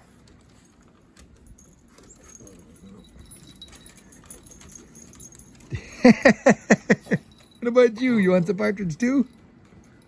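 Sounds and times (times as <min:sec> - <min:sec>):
dogs moving about: 0:00.0 - 0:10.0
faint jingling: 0:00.0 - 0:10.0.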